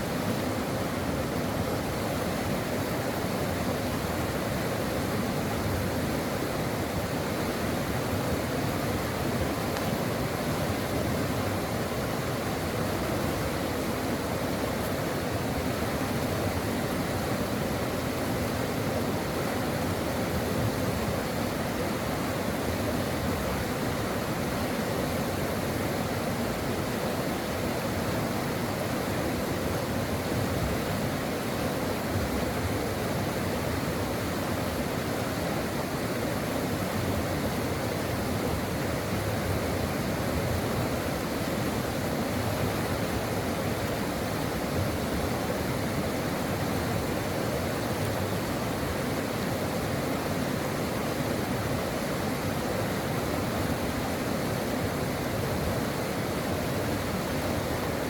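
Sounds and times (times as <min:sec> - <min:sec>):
brook water rushing: 0:00.0 - 0:58.0.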